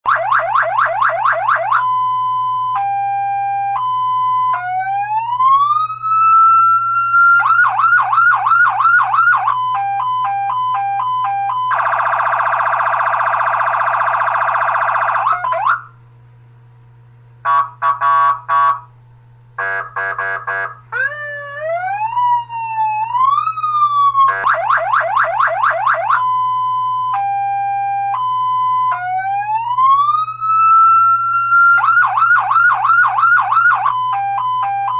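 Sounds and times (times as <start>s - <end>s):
electronic siren cycling tones: 0.0s - 16.0s, 19.6s - 34.9s
low steady hum: 0.1s - 34.9s.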